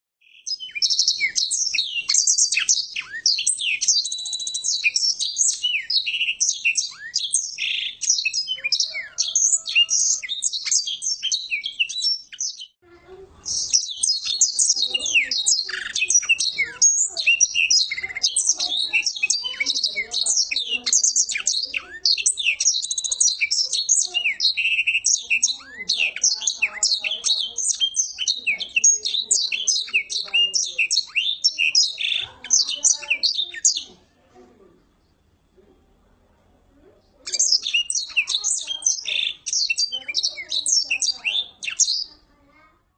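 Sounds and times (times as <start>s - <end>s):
bird twittering song: 0.2s - 12.8s, 13.4s - 34.0s, 37.2s - 42.3s.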